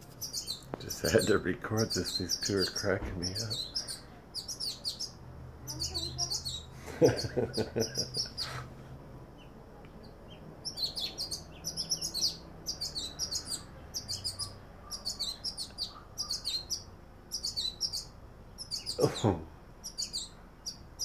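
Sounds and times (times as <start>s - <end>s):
birds chirping high notes: 0.0s - 8.6s, 9.3s - 21.0s.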